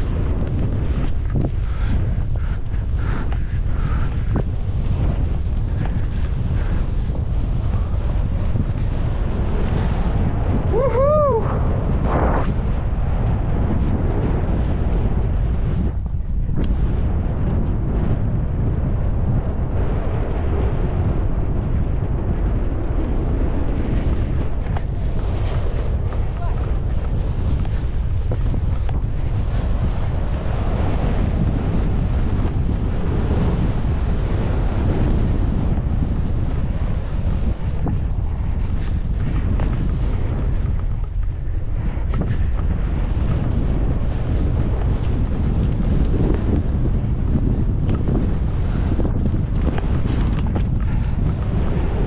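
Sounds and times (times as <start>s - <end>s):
skis sliding over snow: 0.0s - 52.0s
wind buffeting microphone: 0.0s - 52.0s.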